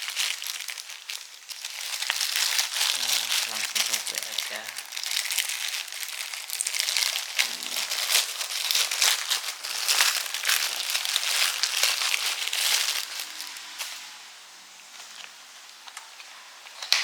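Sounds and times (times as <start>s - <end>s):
packaging being torn and crumpled: 0.0s - 14.0s.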